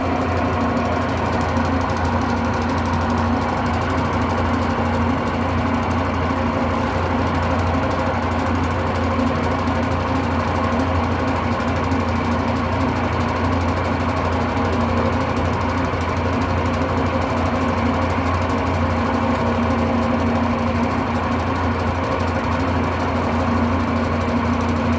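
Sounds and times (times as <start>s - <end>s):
washing machine spinning: 0.0s - 24.9s.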